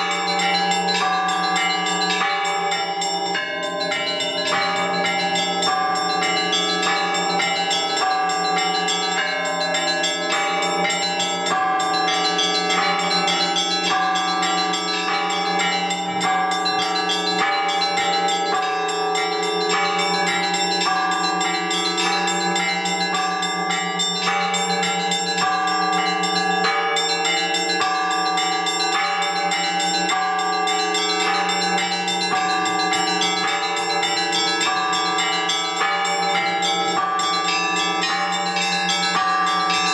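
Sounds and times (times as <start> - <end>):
large bells ringing: 0.0 - 39.9
small church bells struck: 0.0 - 39.9.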